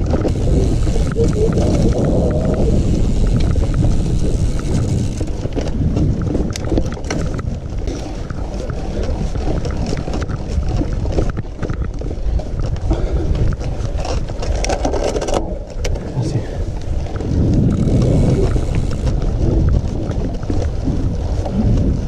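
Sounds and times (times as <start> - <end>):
bike rattles and knocks: 0.0 - 22.0
wind buffeting microphone: 0.0 - 22.0.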